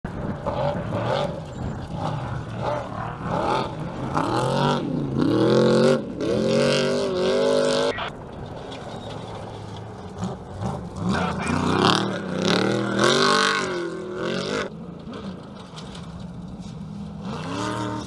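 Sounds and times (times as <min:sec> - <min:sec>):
truck engines revving hard: 0:00.0 - 0:18.0.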